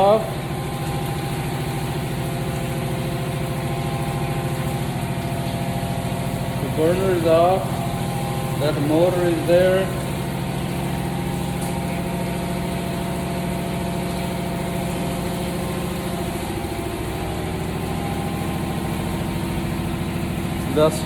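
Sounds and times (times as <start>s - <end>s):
motor-driven machinery hum: 0.0s - 21.0s.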